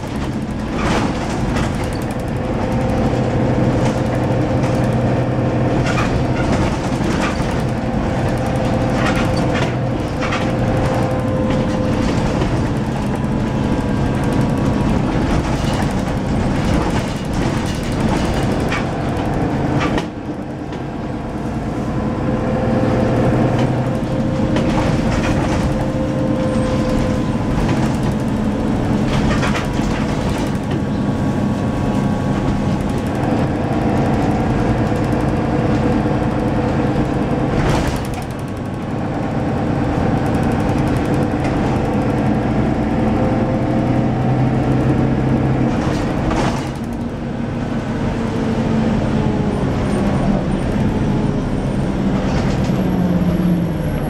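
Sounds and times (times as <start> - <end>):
bus body rattling: 0.0 - 54.0
bus engine running: 0.0 - 54.0.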